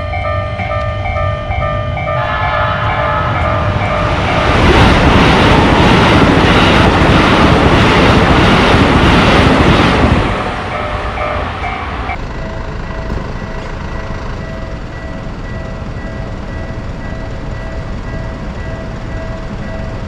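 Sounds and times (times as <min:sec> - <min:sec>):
level-crossing bell dinging: 0:00.0 - 0:08.2, 0:09.2 - 0:20.0
train passing close by: 0:00.0 - 0:20.0.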